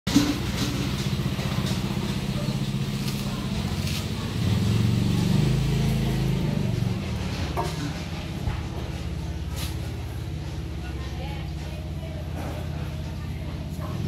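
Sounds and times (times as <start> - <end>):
small engine running: 0.1 - 14.0.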